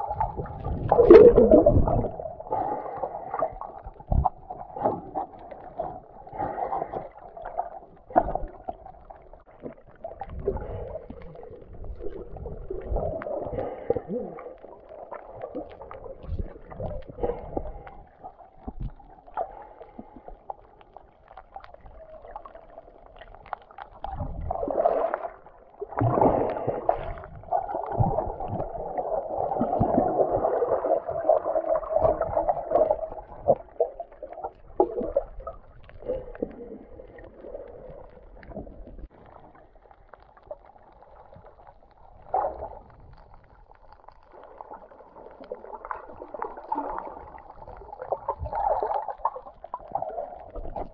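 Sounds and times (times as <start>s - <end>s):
muffled underwater churning bubbles: 0.0s - 50.9s.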